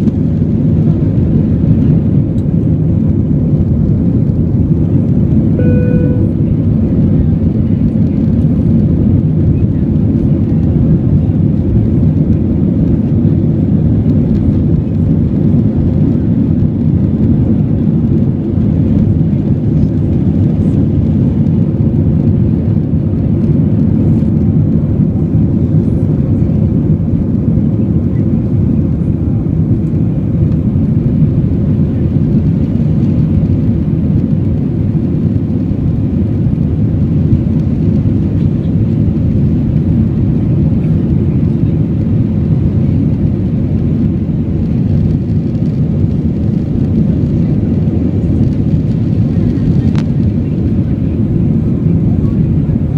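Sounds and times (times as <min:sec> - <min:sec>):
airplane engines rumbling in cabin: 0:00.0 - 0:52.9.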